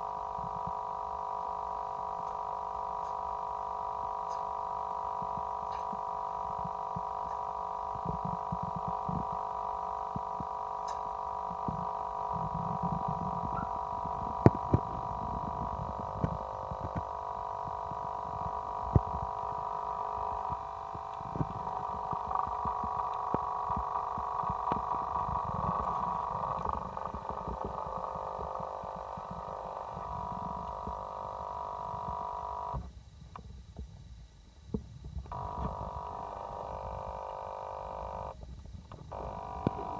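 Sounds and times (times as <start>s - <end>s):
many-toned hum: 0.0s - 39.9s.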